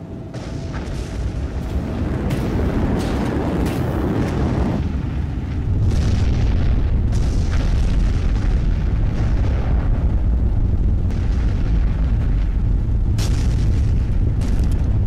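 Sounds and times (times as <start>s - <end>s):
rocket launch roar: 0.3s - 15.0s
sharp crackles: 0.3s - 15.0s.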